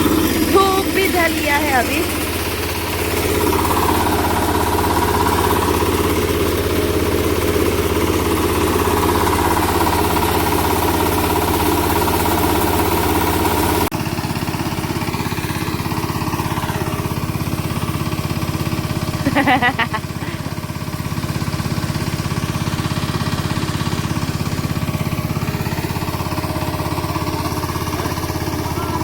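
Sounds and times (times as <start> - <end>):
harvesting machine engine running: 0.0 - 29.0.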